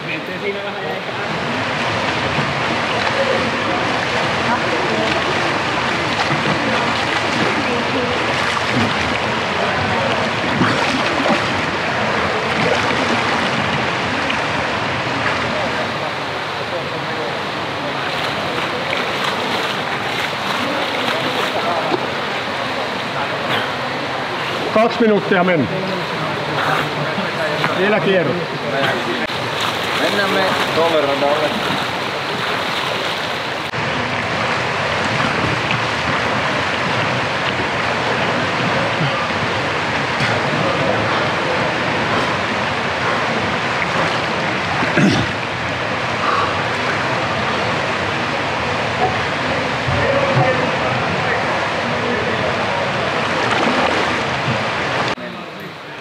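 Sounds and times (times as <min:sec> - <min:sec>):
pool water wash: 0:00.0 - 0:56.0
swimmer splashing: 0:00.0 - 0:56.0.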